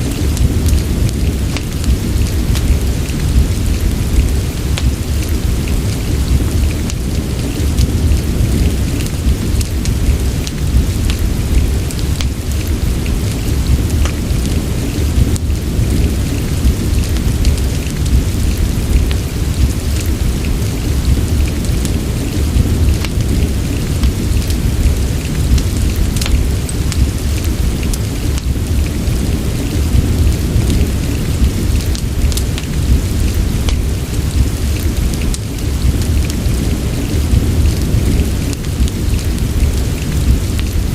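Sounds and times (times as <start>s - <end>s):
fireplace crackling and popping: 0.0s - 40.9s
steady rain: 0.0s - 40.9s.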